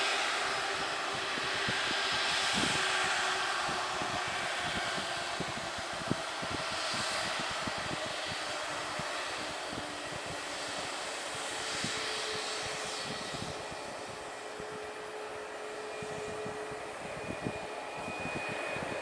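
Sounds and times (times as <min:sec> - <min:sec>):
airliner engines running: 0:00.0 - 0:19.0
faint steady whining tones: 0:00.0 - 0:19.0.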